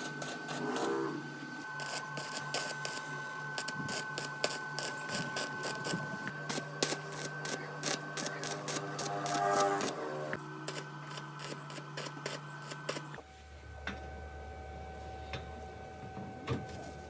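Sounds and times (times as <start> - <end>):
steady hum: 0.0 - 16.5.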